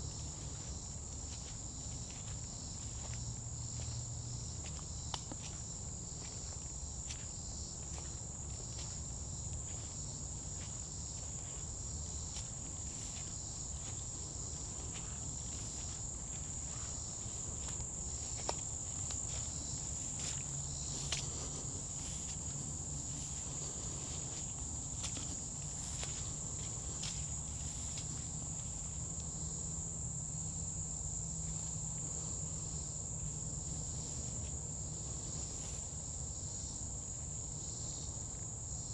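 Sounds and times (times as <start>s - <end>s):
footsteps on forest trail: 0.0s - 36.8s
high-pitched insect chorus: 0.0s - 38.9s.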